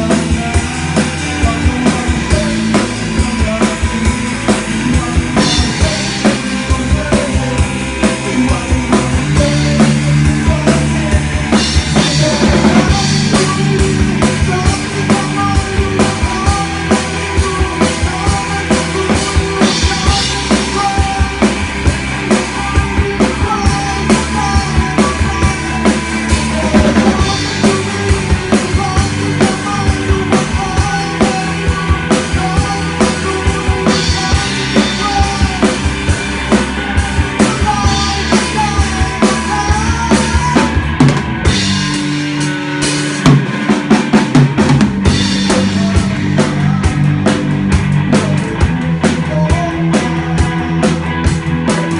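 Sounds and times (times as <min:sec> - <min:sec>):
drum kit kick and snare: 0:00.0 - 0:51.9
rock band playing live: 0:00.0 - 0:51.9.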